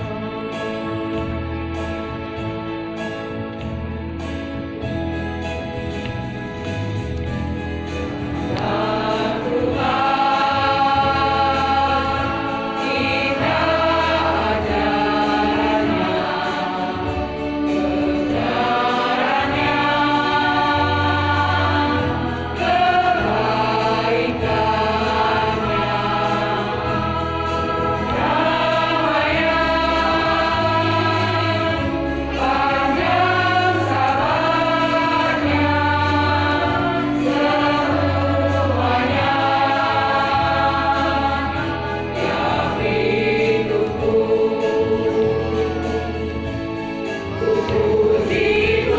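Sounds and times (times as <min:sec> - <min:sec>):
women's choir singing: 0:00.0 - 0:02.3, 0:07.8 - 0:48.9
keyboard bass notes: 0:00.0 - 0:48.9.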